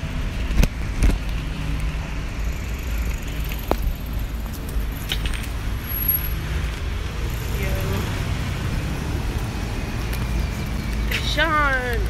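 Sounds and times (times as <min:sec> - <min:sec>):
traffic noise: 0:00.0 - 0:12.0
wind rumbling on microphone: 0:00.0 - 0:12.0.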